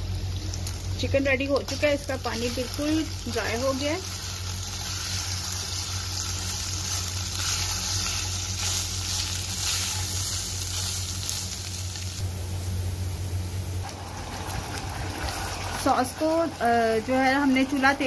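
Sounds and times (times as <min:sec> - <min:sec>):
chicken sizzling in a pot: 0:00.0 - 0:12.7, 0:13.7 - 0:18.0.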